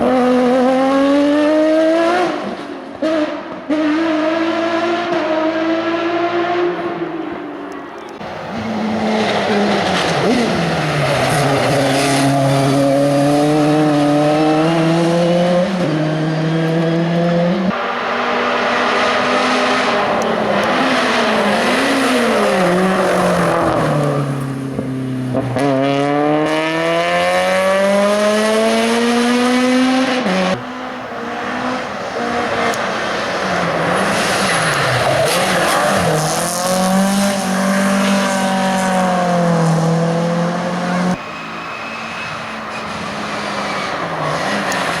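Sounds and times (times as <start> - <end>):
race cars at full throttle: 0.0 - 45.0.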